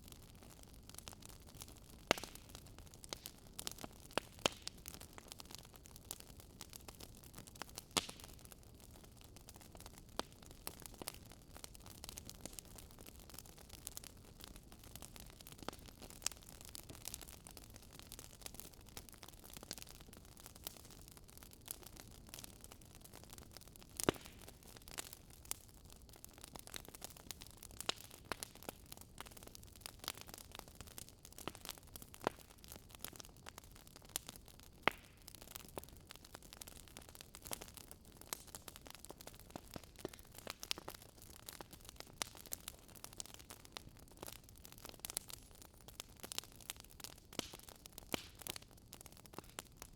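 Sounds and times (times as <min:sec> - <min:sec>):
fireplace fire crackling: 0:00.0 - 0:49.9.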